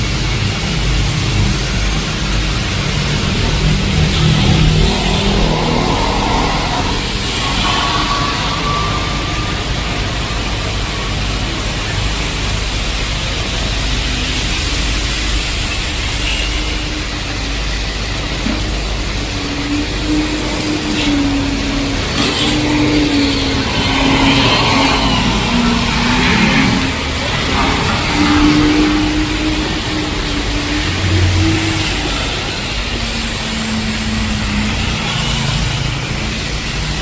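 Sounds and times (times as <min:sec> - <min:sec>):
heavy rain pouring: 0:00.0 - 0:37.0
vehicle engine humming: 0:01.3 - 0:34.6.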